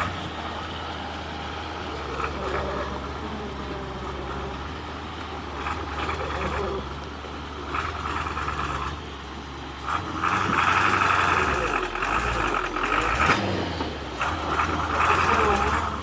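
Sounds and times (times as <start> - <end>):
heavy truck engine running: 0.0 - 16.0.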